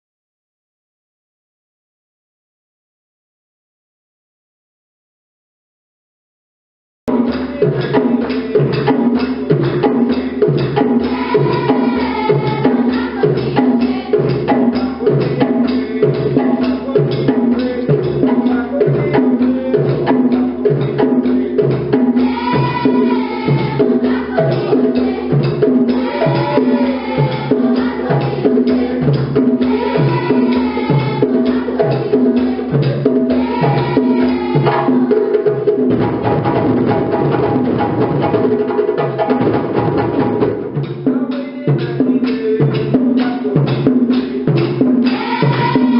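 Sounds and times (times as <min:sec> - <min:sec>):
djembe drums playing: 0:07.1 - 0:45.9
steady low drum beat: 0:07.1 - 0:45.9.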